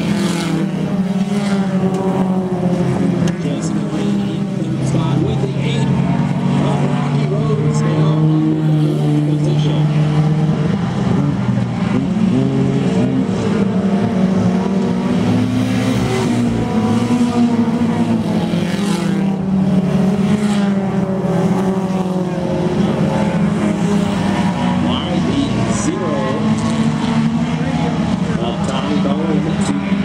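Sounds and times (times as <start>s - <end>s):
race car engines passing: 0.0s - 30.0s.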